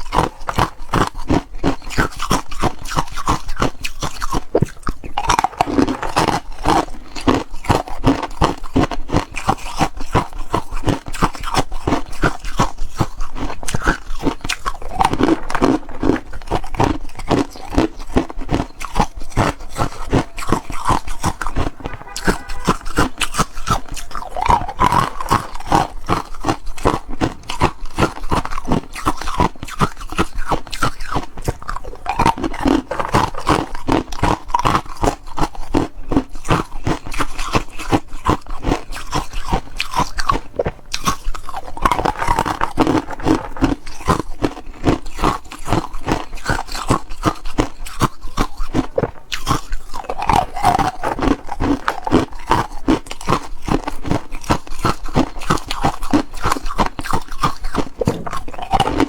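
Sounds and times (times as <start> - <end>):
ice being crunched: 0.0 - 59.0.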